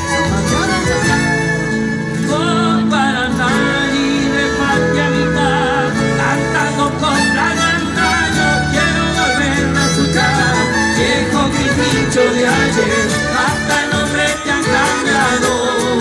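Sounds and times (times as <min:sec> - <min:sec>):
violins playing with vibrato: 0:00.0 - 0:02.9, 0:04.5 - 0:15.9
band accompaniment: 0:00.0 - 0:16.0
man singing: 0:00.0 - 0:16.0.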